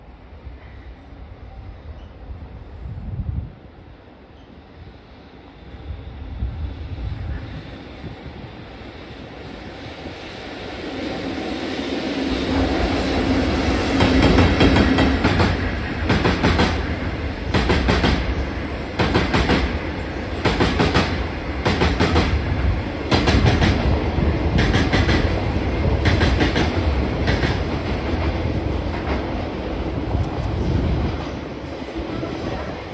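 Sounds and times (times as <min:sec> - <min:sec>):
electric locomotive passing: 0:00.0 - 0:32.9.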